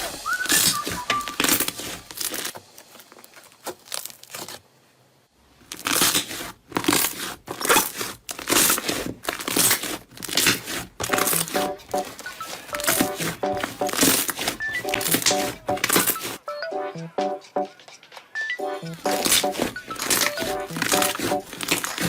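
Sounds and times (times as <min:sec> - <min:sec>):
crunchy slime crackling: 0:00.2 - 0:04.8, 0:05.5 - 0:16.4, 0:19.0 - 0:22.0.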